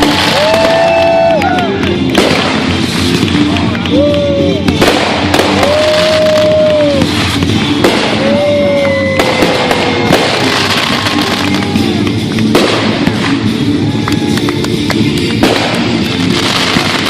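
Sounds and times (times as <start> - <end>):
fireworks bangs: 0.0 - 17.0
fireworks crackling: 0.0 - 17.0
music playing: 0.0 - 17.0.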